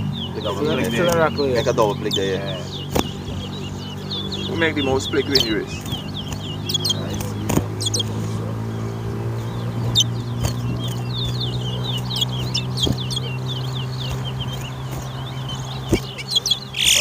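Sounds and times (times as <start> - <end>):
finches chirping rapidly: 0.0 - 17.0
steady low hum: 0.0 - 17.0.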